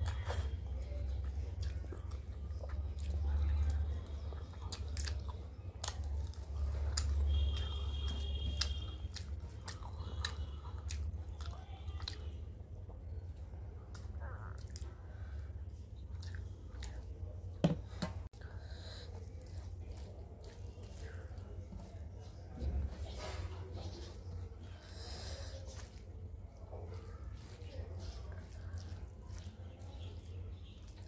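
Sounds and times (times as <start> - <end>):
chewing with wet mouth clicks: 0.0 - 17.6, 18.2 - 22.7, 23.8 - 31.0.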